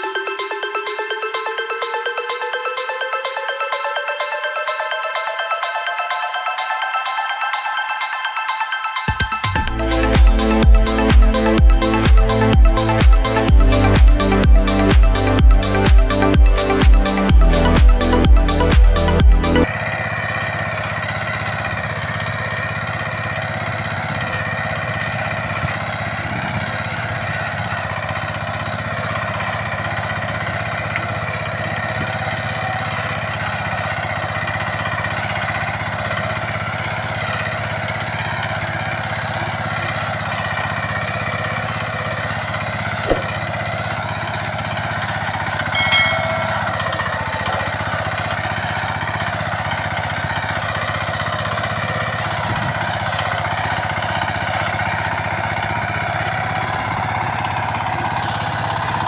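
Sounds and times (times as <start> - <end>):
small tractor engine running: 9.5 - 45.9, 46.5 - 59.0.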